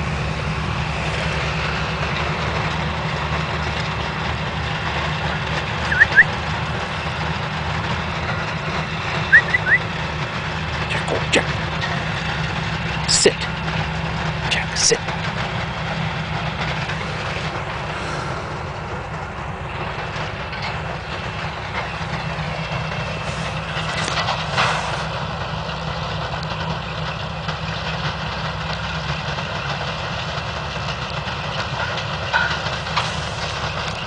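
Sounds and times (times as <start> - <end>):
farm machinery engine running: 0.0 - 34.0.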